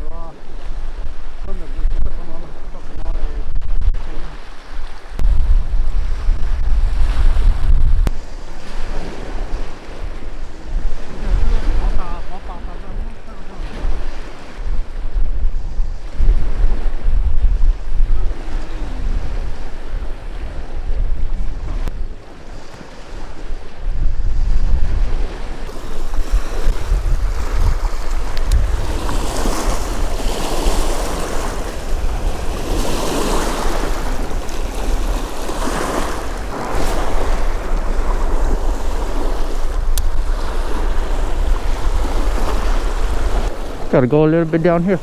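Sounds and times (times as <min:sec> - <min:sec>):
waves washing onto shore: 0:00.0 - 0:45.0
wind buffeting microphone: 0:00.0 - 0:45.0.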